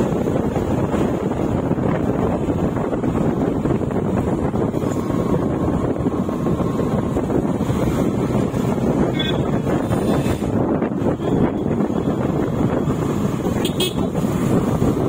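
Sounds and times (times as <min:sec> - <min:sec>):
motorcycle engine: 0:00.0 - 0:15.0
road noise: 0:00.0 - 0:15.0
wind rushing over microphone: 0:00.0 - 0:15.0.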